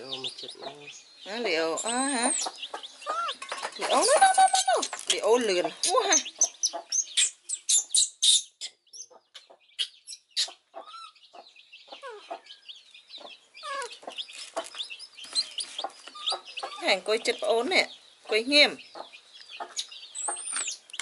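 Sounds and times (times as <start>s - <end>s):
baby chick peeping: 0.0s - 21.0s.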